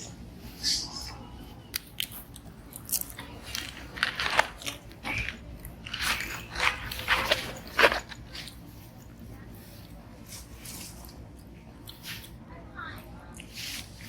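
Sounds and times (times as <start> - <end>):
macaque chewing and crunching food: 0.6 - 14.0.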